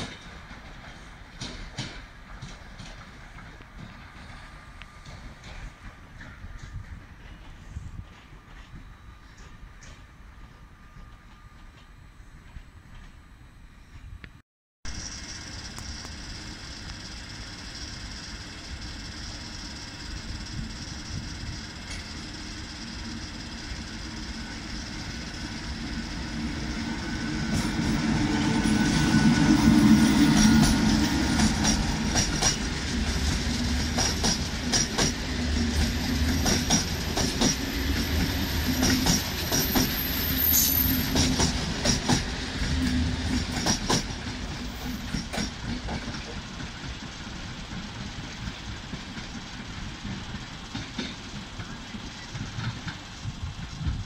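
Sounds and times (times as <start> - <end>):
train wheels clicking over rail joints: 0.0 - 13.2, 18.5 - 54.0
passenger train passing: 0.0 - 14.2, 15.0 - 54.0.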